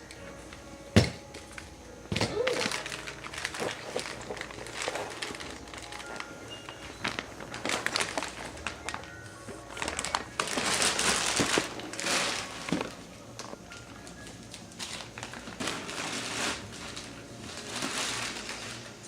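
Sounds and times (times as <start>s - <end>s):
small crinkles and clicks: 1.3s - 19.0s
wrapping paper rustling and crumpling: 1.3s - 19.0s.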